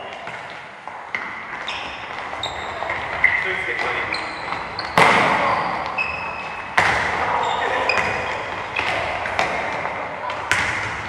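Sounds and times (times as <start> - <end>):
balls kicked and bouncing: 0.0 - 11.0.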